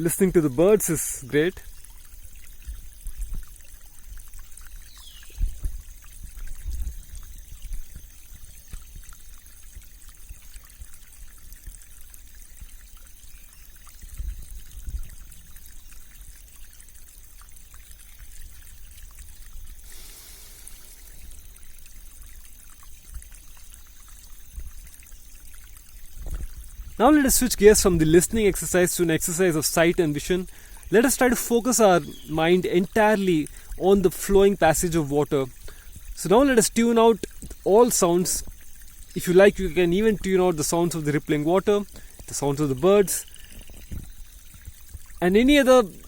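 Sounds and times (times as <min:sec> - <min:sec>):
stream flowing: 0:00.0 - 0:46.0.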